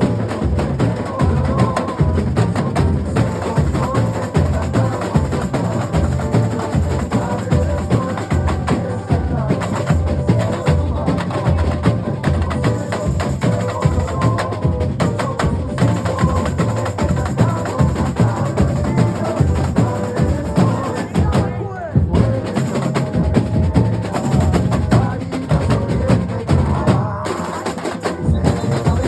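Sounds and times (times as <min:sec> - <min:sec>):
deep bass drums pulsing: 0:00.0 - 0:27.1
snare drums: 0:00.0 - 0:29.0.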